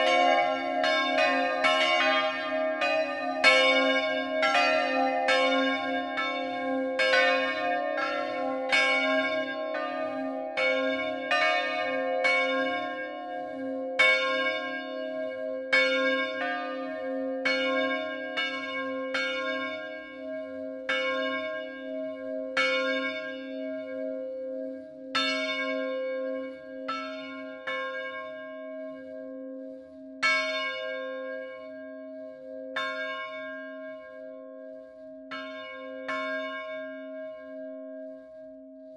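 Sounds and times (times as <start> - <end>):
church bells pealing: 0.0 - 38.8.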